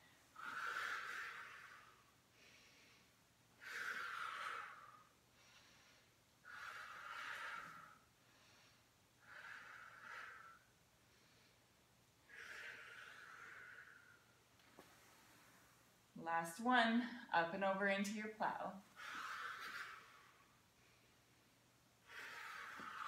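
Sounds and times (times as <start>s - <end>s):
woman breathing with effort: 0.0s - 15.8s, 18.8s - 23.0s.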